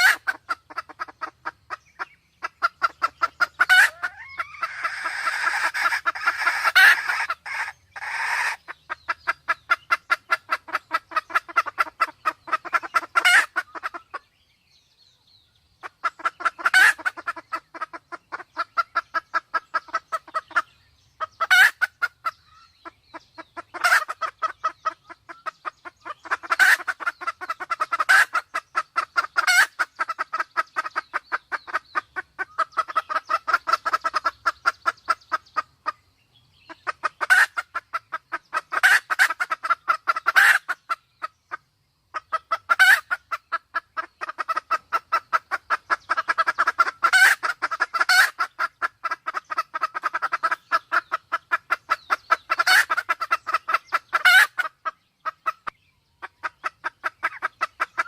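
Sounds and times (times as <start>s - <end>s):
junglefowl sharp calls: 0.0s - 14.2s, 15.8s - 36.0s, 36.7s - 58.0s
junglefowl rapid clucking: 0.0s - 14.3s, 15.8s - 36.0s, 36.6s - 58.0s.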